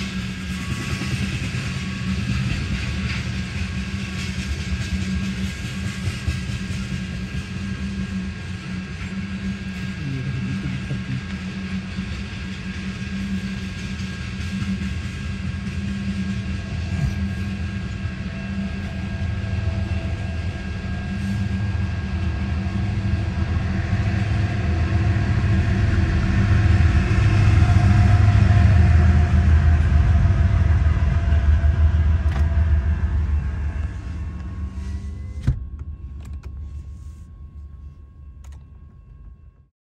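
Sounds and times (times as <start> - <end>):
train wheels rumbling on rail: 0.0 - 39.7.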